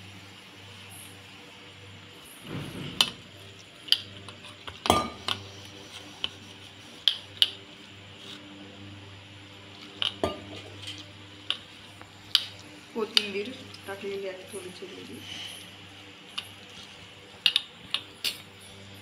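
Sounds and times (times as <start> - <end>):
batter mixed by hand: 0.0 - 19.0.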